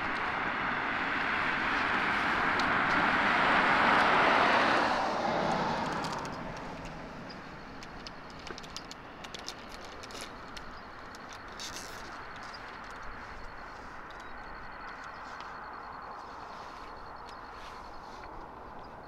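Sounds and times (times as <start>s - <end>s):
distant traffic drone: 0.0s - 19.0s.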